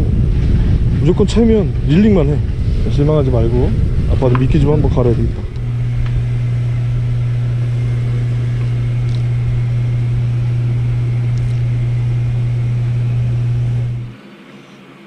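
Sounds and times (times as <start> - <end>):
rumbling haze: 0.0 - 14.9
low motor hum: 0.0 - 15.0.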